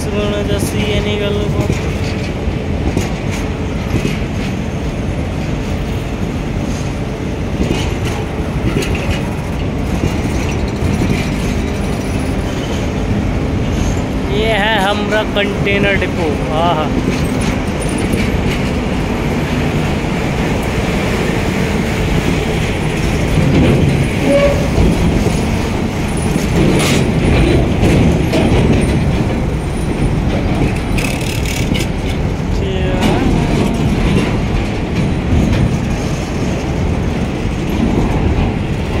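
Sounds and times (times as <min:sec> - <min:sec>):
freight train rumbling on rails: 0:00.0 - 0:39.0.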